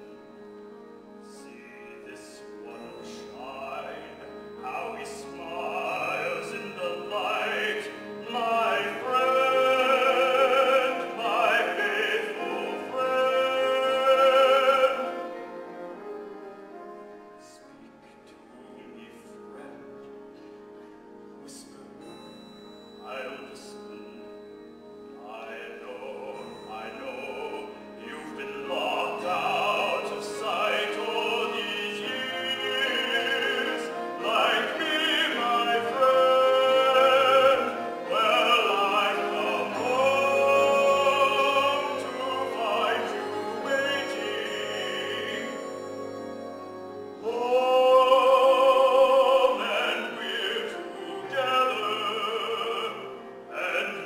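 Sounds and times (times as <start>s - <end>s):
soft instrumental accompaniment: 0.0s - 54.0s
person singing with vibrato: 1.2s - 16.0s, 25.1s - 54.0s.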